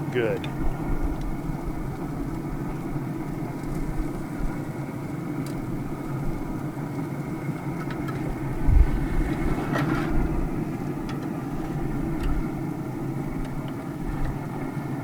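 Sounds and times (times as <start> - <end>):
motor running with low rumble: 0.0 - 15.0.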